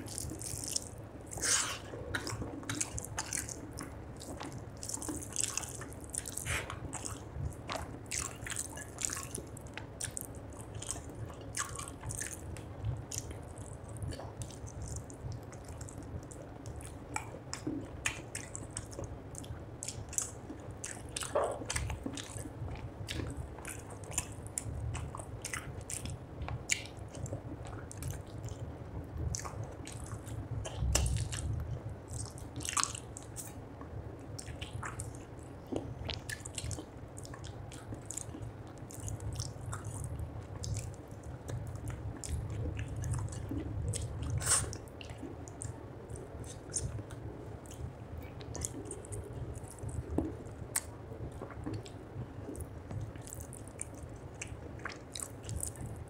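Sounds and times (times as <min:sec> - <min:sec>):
person chewing: 0:00.0 - 0:28.6, 0:29.3 - 0:33.6, 0:34.4 - 0:56.0.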